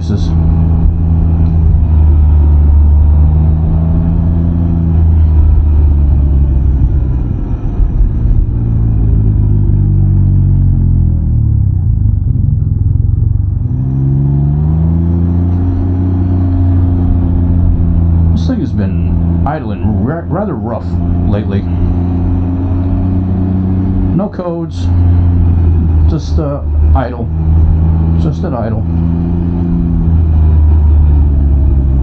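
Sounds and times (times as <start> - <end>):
three-wheeler engine running: 0.0 - 32.0.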